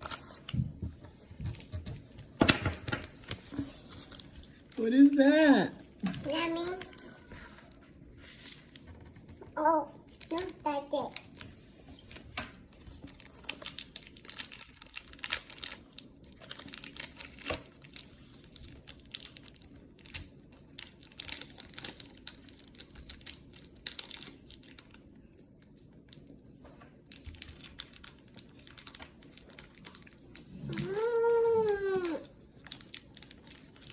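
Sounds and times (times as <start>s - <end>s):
plastic wrappers crinkling: 0.0s - 33.9s.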